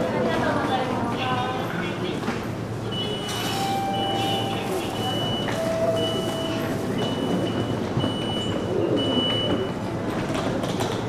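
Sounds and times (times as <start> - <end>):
station concourse background noise: 0.0 - 11.0.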